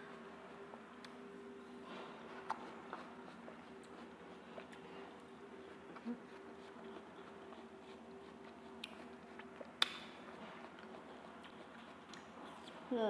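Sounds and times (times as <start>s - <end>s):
watermelon being chewed: 0.0s - 12.9s.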